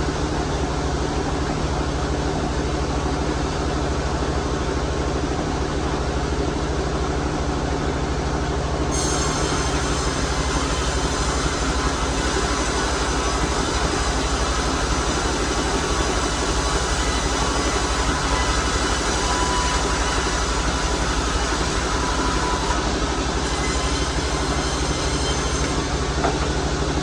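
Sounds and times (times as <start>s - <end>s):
sawmill machinery running: 0.0s - 27.0s.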